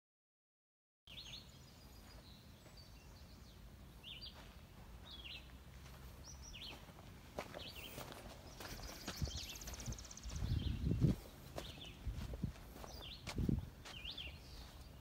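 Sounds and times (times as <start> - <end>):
small birds chirping: 1.1 - 15.0.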